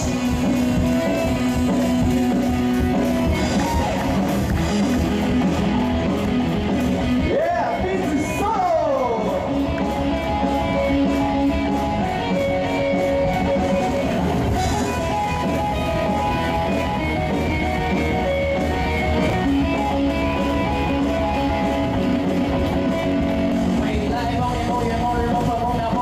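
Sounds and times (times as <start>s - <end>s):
guitar-led pop music: 0.0s - 26.0s.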